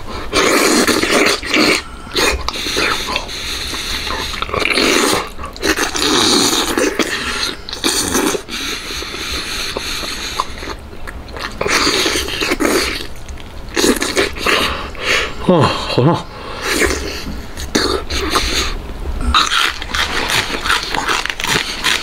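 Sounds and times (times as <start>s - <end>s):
wet chewing and sucking: 0.1s - 15.4s, 16.6s - 22.0s.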